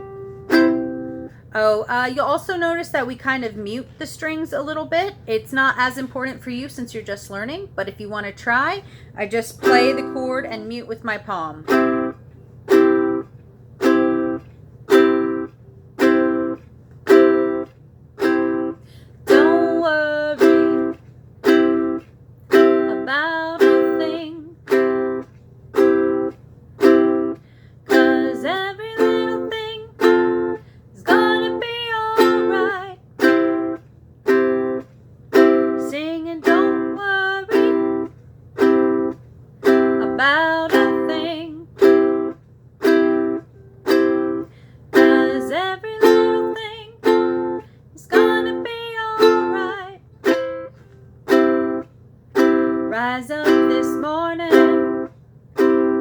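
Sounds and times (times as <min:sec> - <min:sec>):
ukulele strummed palm-muted chords: 0:00.0 - 0:04.8, 0:09.6 - 0:56.0.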